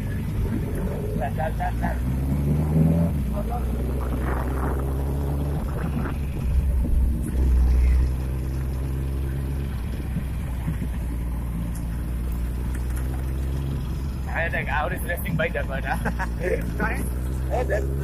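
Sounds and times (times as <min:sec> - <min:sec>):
motorcycle engines running: 0:00.0 - 0:18.0.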